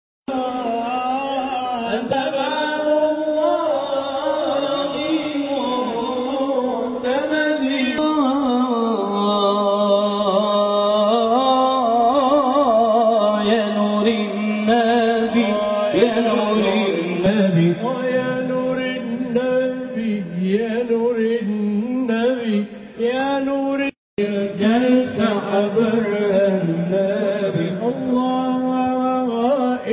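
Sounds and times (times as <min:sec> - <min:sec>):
men chanting devotional song: 0:00.3 - 0:29.9.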